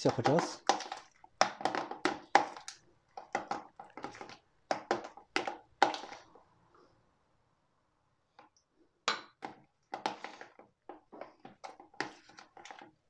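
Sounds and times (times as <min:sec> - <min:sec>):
spoon stirring in a plastic bowl: 0:00.0 - 0:06.5, 0:08.4 - 0:13.0.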